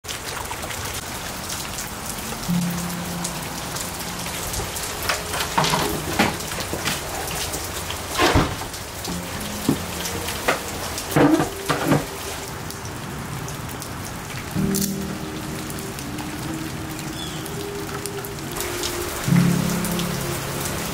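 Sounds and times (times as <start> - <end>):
rain falling: 0.0 - 20.9
heavy raindrops knocking: 0.1 - 20.9.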